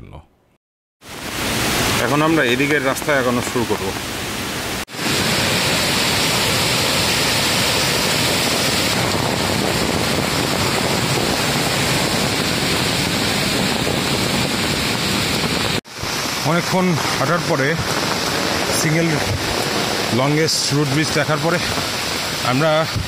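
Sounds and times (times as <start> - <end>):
heavy rain falling: 1.0 - 23.0
stream rushing white water: 1.0 - 23.0.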